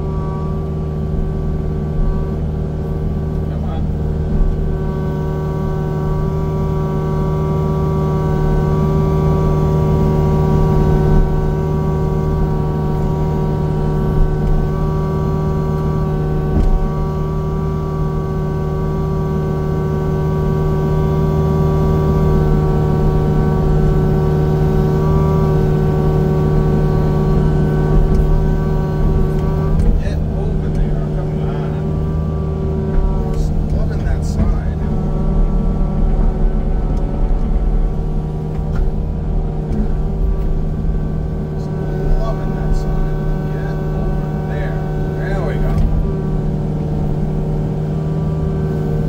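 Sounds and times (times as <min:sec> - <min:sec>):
tracked machine engine running: 0:00.0 - 0:49.0.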